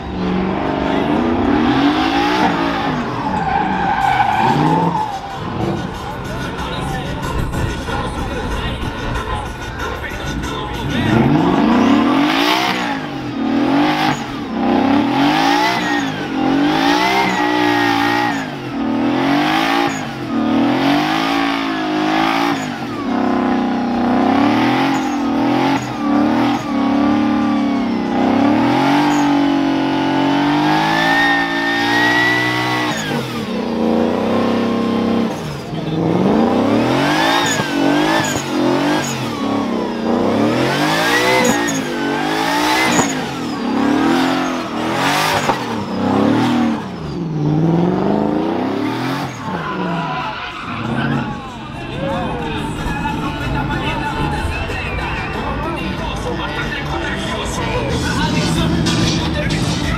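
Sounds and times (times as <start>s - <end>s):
pickup truck engine revving: 0.0s - 59.9s.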